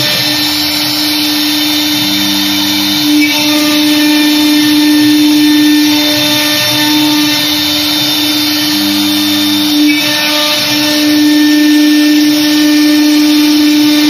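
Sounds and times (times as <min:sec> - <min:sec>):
lower machine tone: 0:00.0 - 0:14.0
router spindle steady tone: 0:00.0 - 0:14.0.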